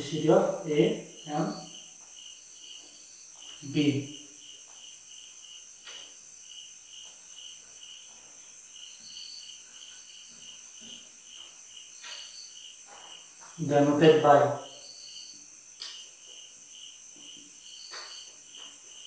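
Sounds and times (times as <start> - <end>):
insect chirping: 0.0 - 19.0.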